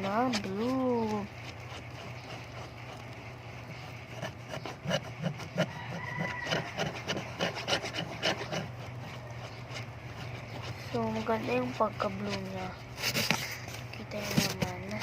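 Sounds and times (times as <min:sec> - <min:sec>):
slime scraping on paper plate: 0:00.0 - 0:15.0.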